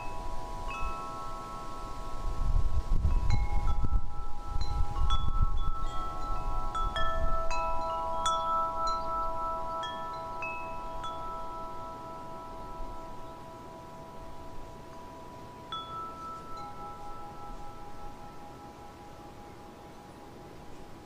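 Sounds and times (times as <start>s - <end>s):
chimes ringing: 0.0s - 2.4s, 3.1s - 20.0s.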